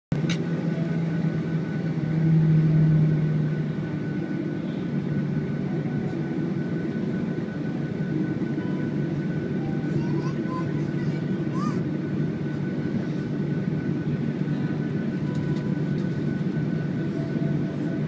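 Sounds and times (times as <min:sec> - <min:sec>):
jet engines humming and whining: 0:00.1 - 0:18.0.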